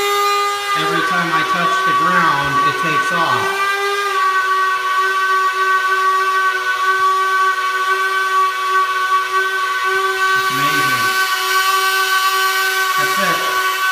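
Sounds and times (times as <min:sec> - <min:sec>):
rotary tool whining: 0:00.0 - 0:13.9.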